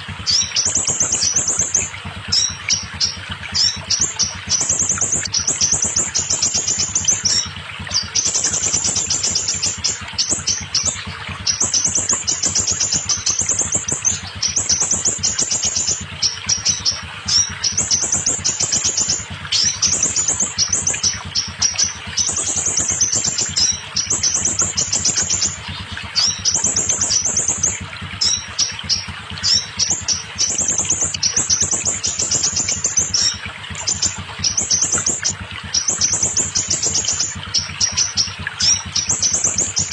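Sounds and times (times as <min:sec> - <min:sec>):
bird singing high trills: 0:00.0 - 0:39.9.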